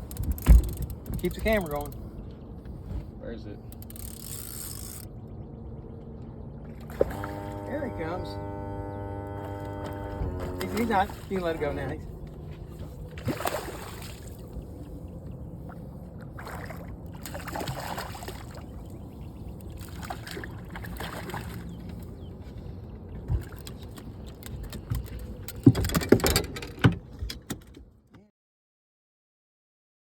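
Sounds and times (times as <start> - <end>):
boat engine low rumble: 0.0 - 28.0.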